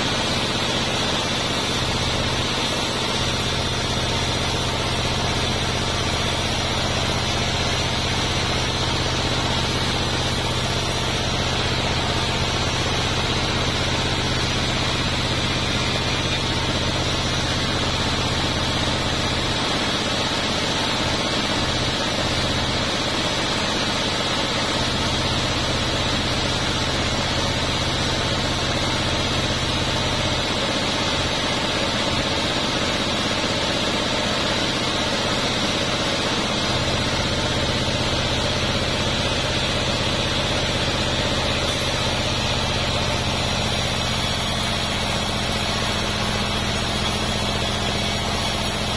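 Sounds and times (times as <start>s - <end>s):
band sawmill low hum: 0.0s - 24.0s, 24.6s - 48.9s
saw blade high whine: 0.0s - 48.9s.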